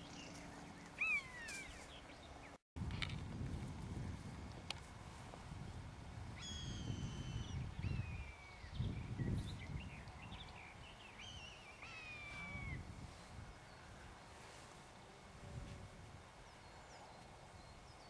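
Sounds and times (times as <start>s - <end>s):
wind rumble on microphone: 2.8s - 18.0s.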